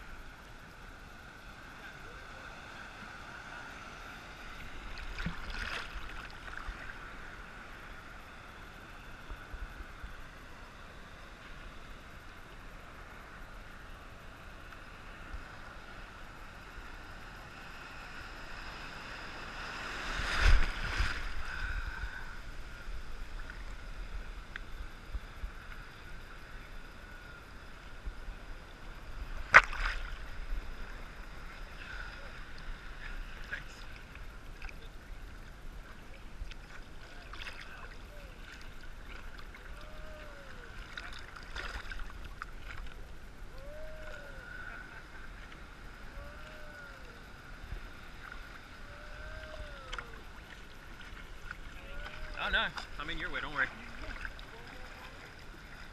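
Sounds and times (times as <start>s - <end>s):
muffled waves lapping: 0.0s - 55.9s
wave splashes: 0.0s - 55.9s.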